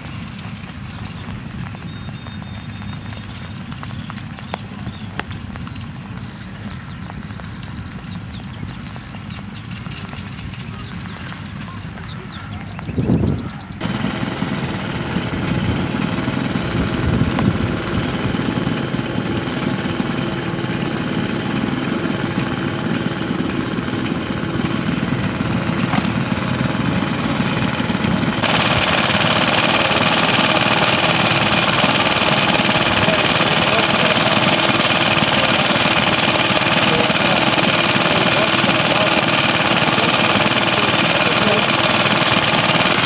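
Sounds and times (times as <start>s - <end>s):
bright-toned engine running: 0.0s - 12.4s, 13.8s - 43.0s
small stationary engines running: 0.0s - 43.0s.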